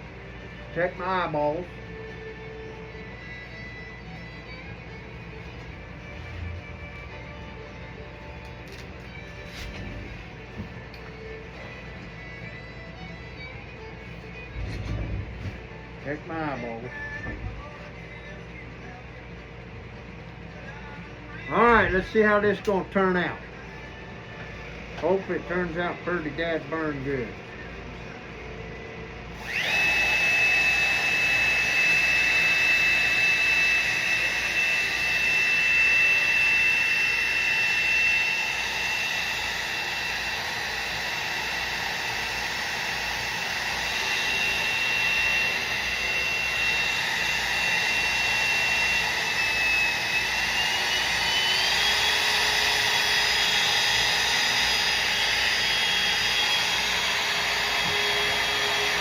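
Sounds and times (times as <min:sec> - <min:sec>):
wood router whining: 0:00.0 - 0:18.0, 0:29.2 - 0:59.0.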